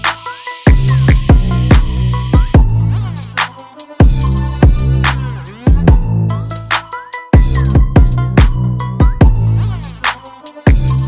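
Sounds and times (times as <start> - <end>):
hip-hop style electronic music: 0.0 - 11.0.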